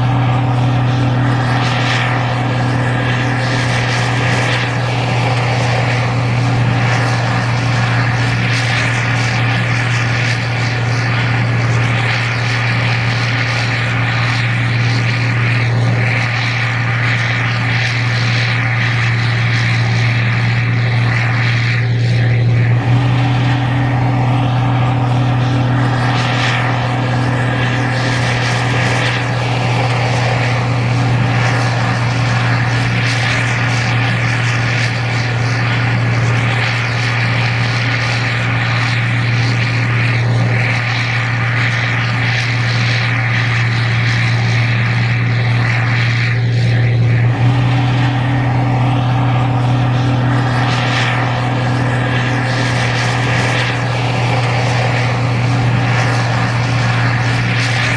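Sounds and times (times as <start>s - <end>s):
combine harvester engine droning: 0.0s - 57.9s.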